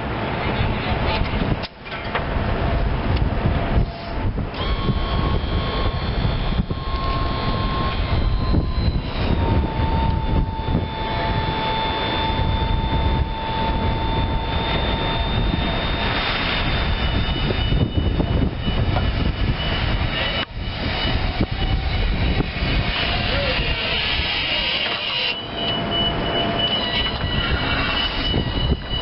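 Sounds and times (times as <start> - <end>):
thin high whine: 2.6 - 29.0.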